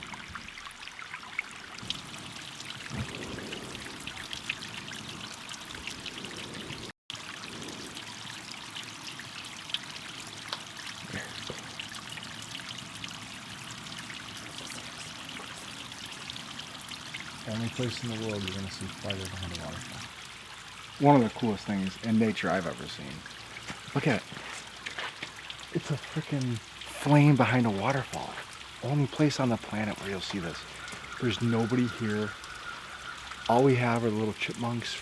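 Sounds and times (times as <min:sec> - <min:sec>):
small waterfall splashing over rock: 0:00.0 - 0:35.0.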